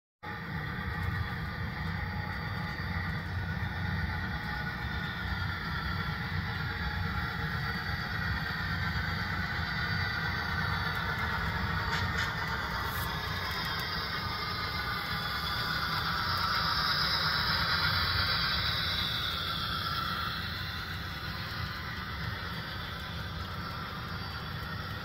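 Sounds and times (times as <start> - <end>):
model train running on track: 0.2 - 25.0.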